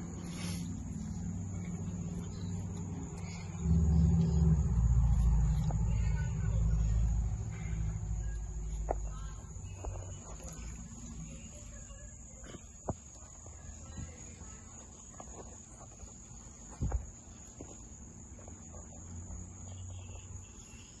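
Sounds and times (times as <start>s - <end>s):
insects chirring: 0.0s - 21.0s
low background rumble: 0.0s - 21.0s.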